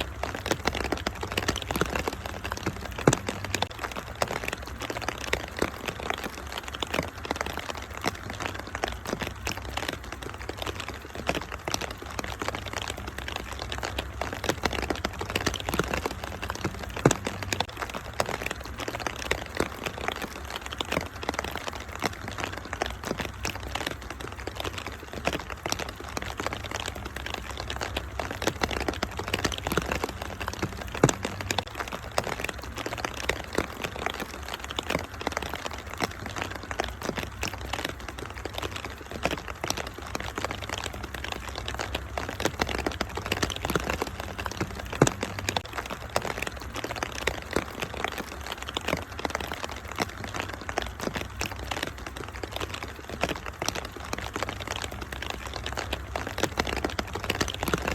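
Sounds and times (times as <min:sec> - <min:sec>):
low steady rumble: 0:00.0 - 0:57.9
rain hissing: 0:00.0 - 0:57.9
wood fire crackling and popping: 0:00.0 - 0:57.9.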